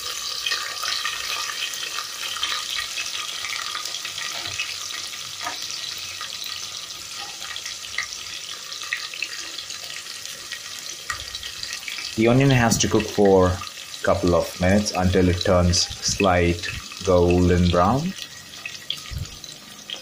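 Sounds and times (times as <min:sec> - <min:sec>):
onions frying in hot oil: 0:00.0 - 0:20.0.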